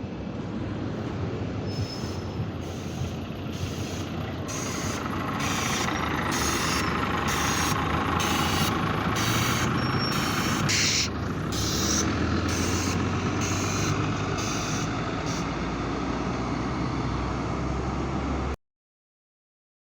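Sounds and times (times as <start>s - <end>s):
bus engine running: 0.0s - 18.6s
road and body noise: 0.0s - 18.6s.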